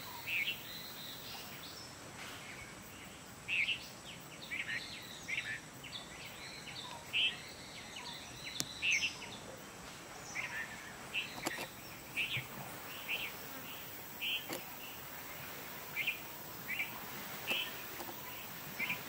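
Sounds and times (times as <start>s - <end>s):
birds chirping: 0.0s - 19.0s
steady outdoor hiss: 0.0s - 19.0s.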